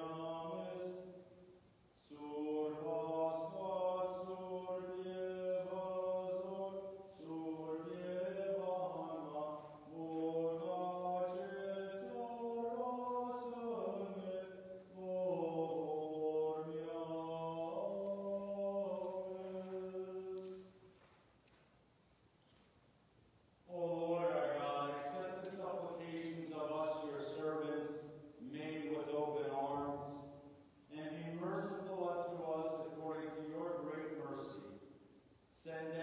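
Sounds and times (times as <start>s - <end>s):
man chanting: 0.0s - 1.2s, 2.0s - 20.8s, 23.7s - 34.8s, 35.6s - 36.0s.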